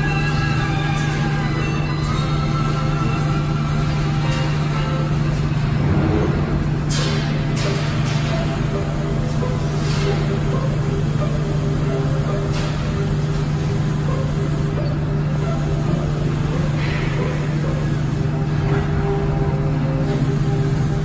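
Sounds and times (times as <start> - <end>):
laser cutter low hum: 0.0 - 21.0.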